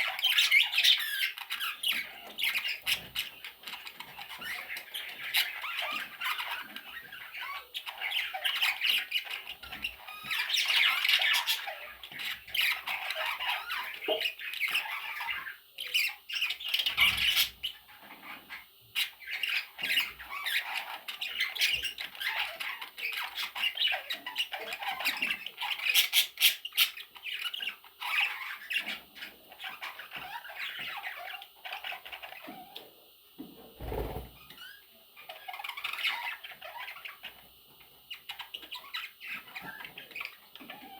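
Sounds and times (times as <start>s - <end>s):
chicks squawking: 0.0s - 32.9s.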